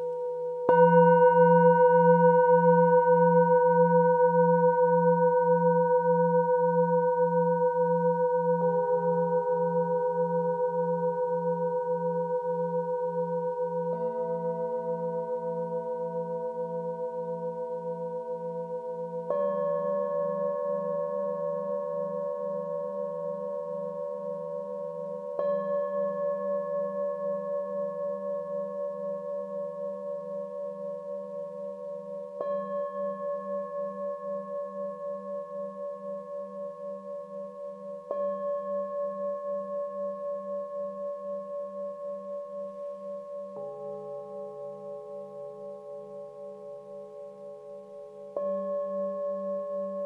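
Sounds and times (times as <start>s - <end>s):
singing bowls ringing: 0.0s - 50.0s.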